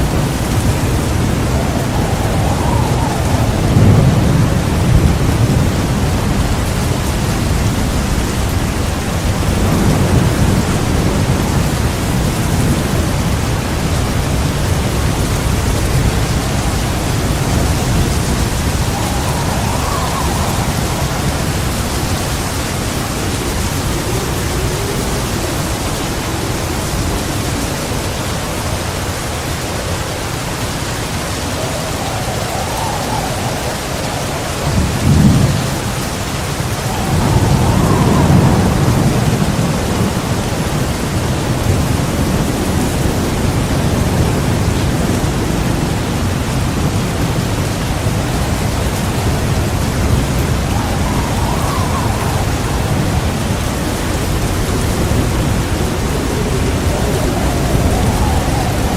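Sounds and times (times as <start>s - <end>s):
heavy rain hissing: 0.0s - 58.9s
low thunder rumble: 0.0s - 58.9s.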